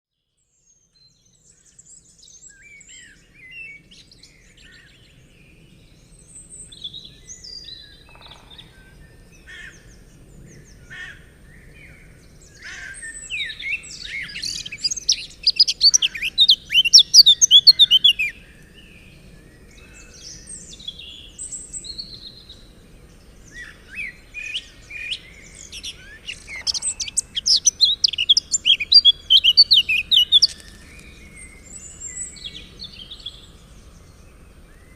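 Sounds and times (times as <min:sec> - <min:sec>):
birds chirping and singing: 0:06.4 - 0:34.9.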